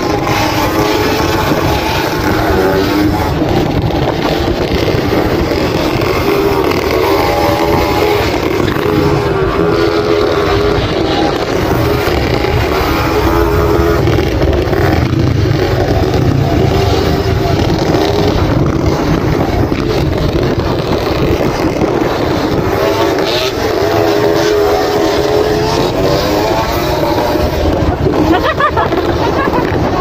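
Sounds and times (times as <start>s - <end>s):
dirt bike engines running: 0.0s - 30.0s.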